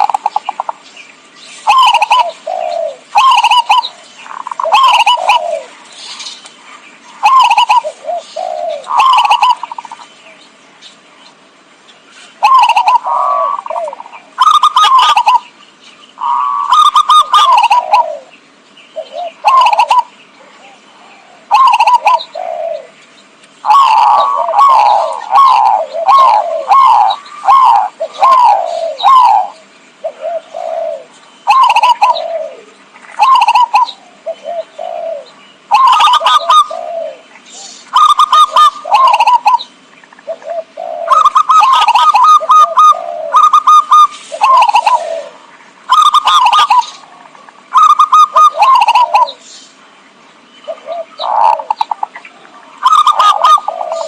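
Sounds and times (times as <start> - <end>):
dove staccato cooing: 0.0 - 0.8, 1.6 - 10.1, 12.3 - 15.6, 16.2 - 18.4, 19.0 - 23.0, 23.6 - 49.4, 50.7 - 54.0.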